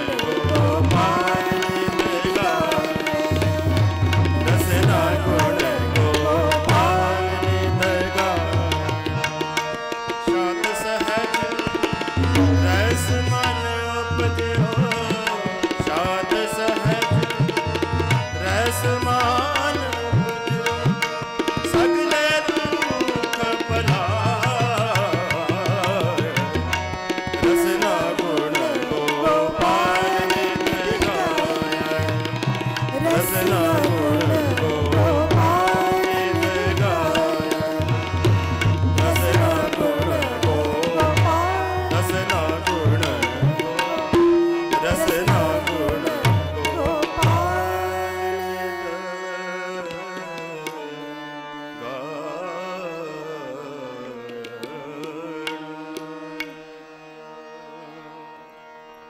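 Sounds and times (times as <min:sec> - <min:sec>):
tabla drumming: 0:00.0 - 0:48.4
man singing: 0:00.0 - 0:56.6
harmonium: 0:00.0 - 0:59.0.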